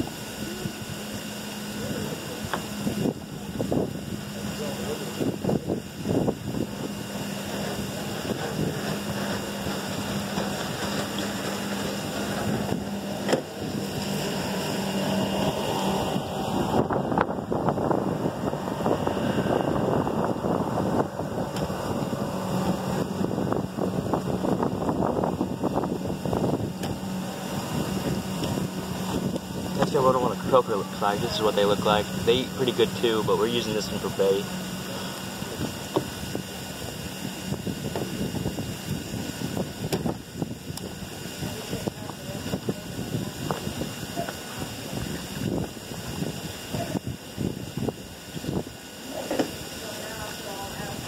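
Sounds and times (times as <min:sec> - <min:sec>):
engine hum: 0:00.0 - 0:51.0
wind on microphone: 0:00.0 - 0:51.0.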